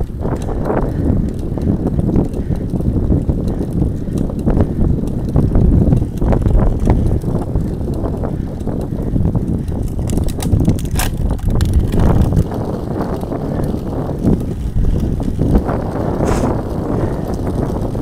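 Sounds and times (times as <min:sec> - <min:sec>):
bike clicks and rattles: 0:00.0 - 0:18.0
tyres on cracked tarmac: 0:00.0 - 0:18.0
wind rumble on microphone: 0:00.0 - 0:18.0.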